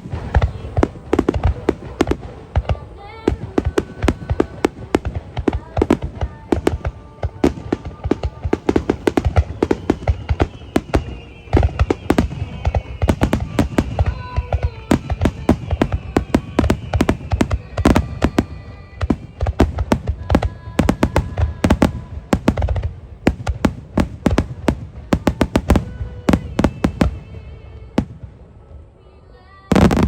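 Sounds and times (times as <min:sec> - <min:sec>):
fireworks crackling and banging: 0:00.0 - 0:29.0, 0:29.7 - 0:30.0
music playing: 0:00.0 - 0:30.0.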